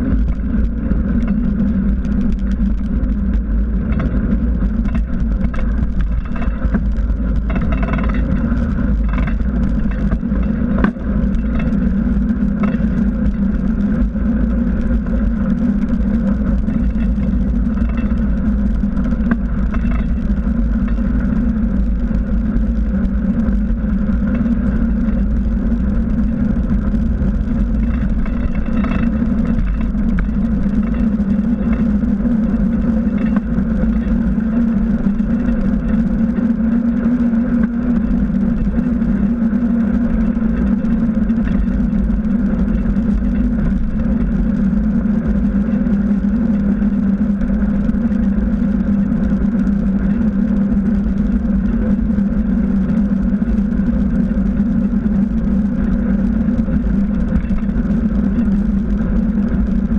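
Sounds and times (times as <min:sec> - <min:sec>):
steady low hum: 0:00.0 - 0:59.9
tyres rumbling on asphalt: 0:00.0 - 0:59.9
wind: 0:00.0 - 0:59.9.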